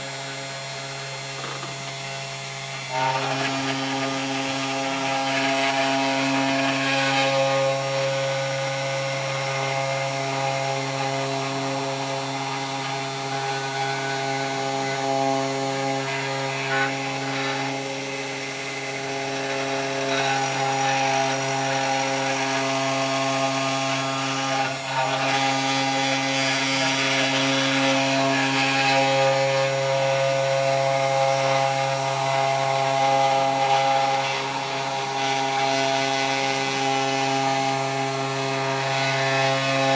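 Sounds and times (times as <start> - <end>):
bit cutting wood: 0.0 - 39.9
router spindle whining: 0.0 - 39.9.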